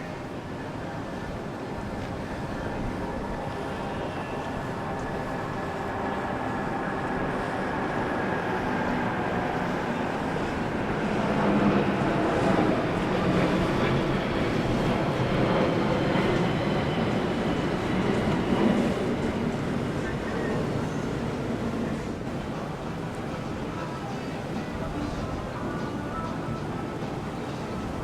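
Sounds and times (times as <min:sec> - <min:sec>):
boat engines rumbling: 0:00.0 - 0:28.0.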